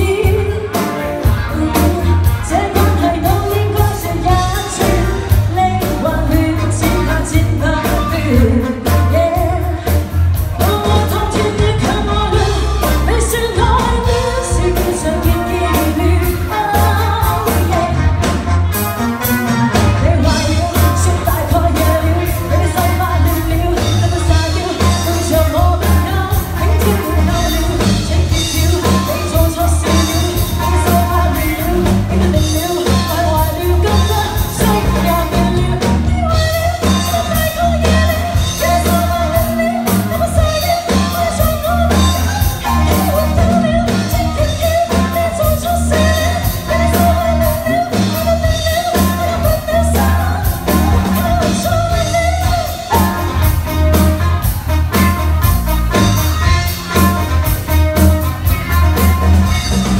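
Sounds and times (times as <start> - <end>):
woman singing: 0.0 - 18.5, 19.4 - 59.9
live band playing: 0.0 - 59.9.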